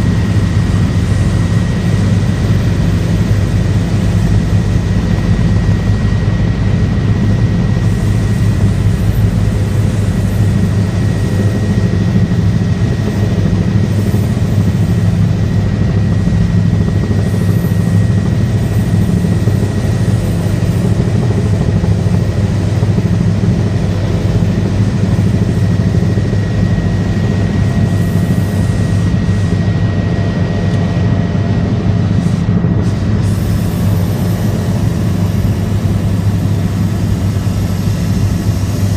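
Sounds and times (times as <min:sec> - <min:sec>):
helicopter rotor and engine: 0:00.0 - 0:38.9
thin high whine: 0:00.0 - 0:38.9.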